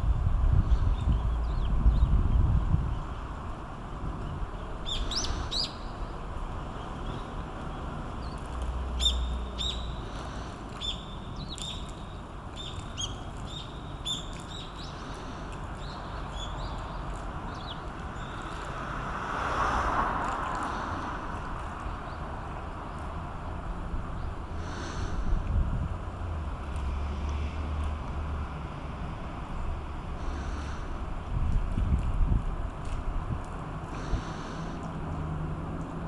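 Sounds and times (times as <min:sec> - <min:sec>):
steady outdoor hiss: 0:00.0 - 0:36.0.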